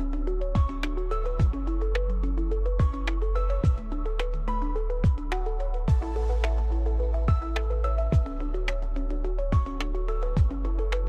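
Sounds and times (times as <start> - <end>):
electronic music with steady beat: 0.2 - 11.0.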